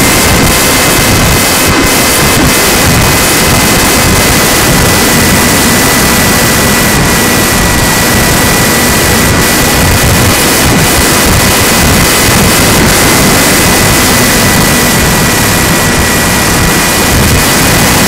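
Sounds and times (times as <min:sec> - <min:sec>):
model plane motor and propeller: 0:00.0 - 0:18.0.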